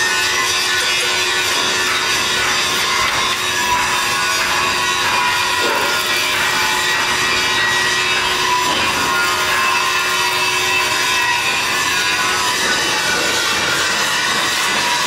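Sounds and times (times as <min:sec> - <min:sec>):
power tool rasping: 0:00.0 - 0:15.0.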